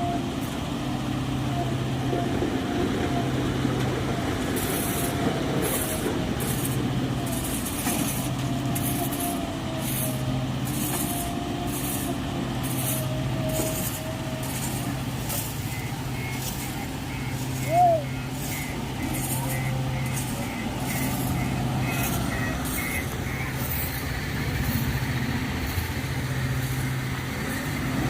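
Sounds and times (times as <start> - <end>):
diesel engine running with whine: 0.0 - 28.0.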